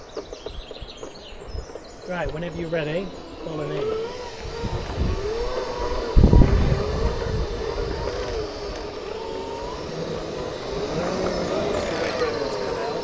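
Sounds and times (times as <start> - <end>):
electric drive whining: 0.0 - 13.0
wind buffeting microphone: 0.1 - 13.0.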